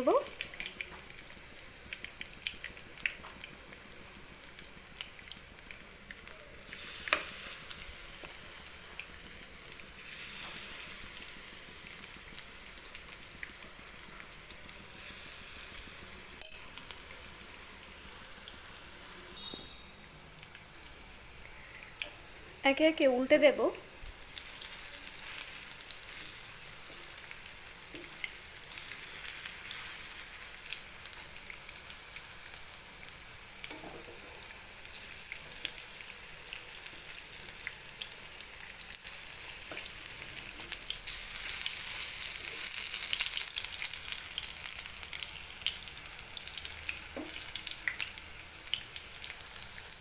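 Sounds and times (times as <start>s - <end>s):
fritters sizzling in hot oil: 0.0s - 50.0s.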